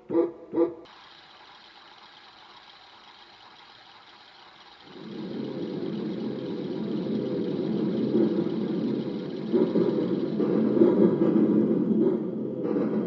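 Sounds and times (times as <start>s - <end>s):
keyboard engine sound effect: 0.9s - 12.1s.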